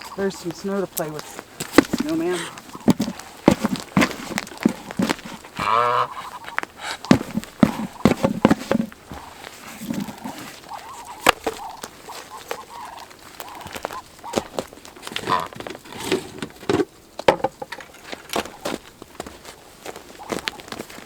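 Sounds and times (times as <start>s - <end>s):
poultry calling and clucking: 0.0s - 21.0s.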